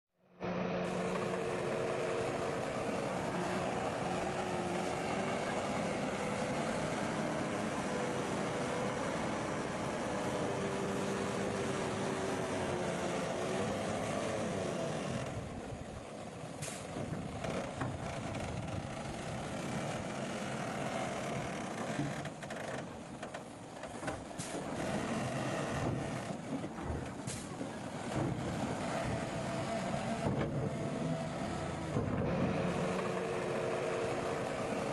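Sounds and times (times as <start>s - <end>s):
bulldozer diesel engine running: 0.2s - 34.9s.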